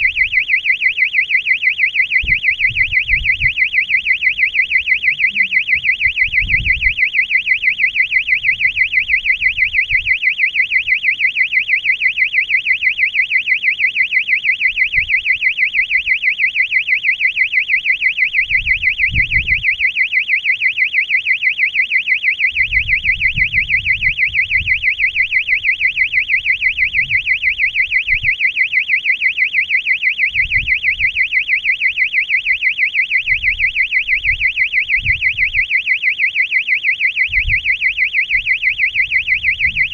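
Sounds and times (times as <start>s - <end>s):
electronic warbling siren: 0.0s - 39.9s.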